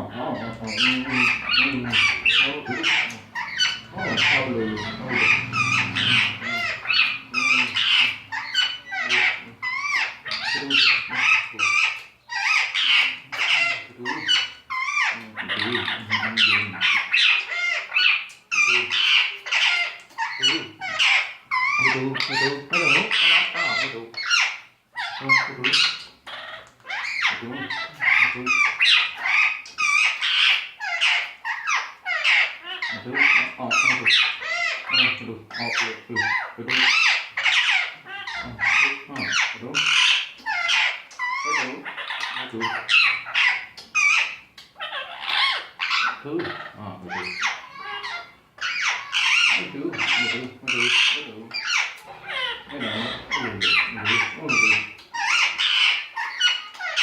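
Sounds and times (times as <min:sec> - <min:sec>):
parrot chattering and squawking: 0:00.0 - 0:57.0.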